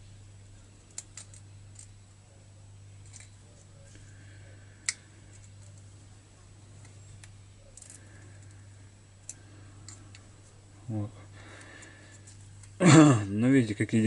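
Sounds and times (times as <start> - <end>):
low hum: 0.0 - 13.5.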